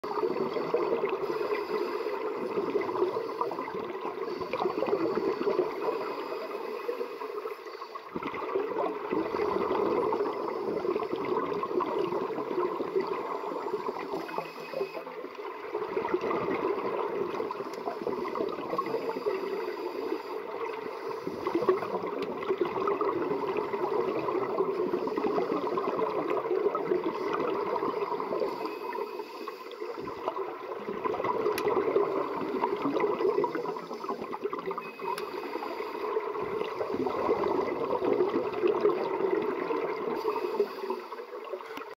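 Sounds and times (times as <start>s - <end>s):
underwater exhaled bubbles gurgling: 0.0s - 41.9s.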